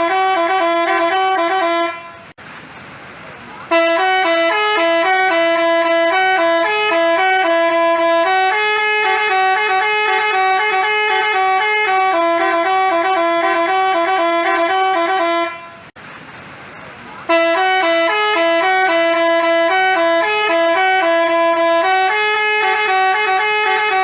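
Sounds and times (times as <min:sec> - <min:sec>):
multi-tone horn playing a jingle: 0:00.0 - 0:02.3, 0:03.7 - 0:15.9, 0:17.3 - 0:24.0.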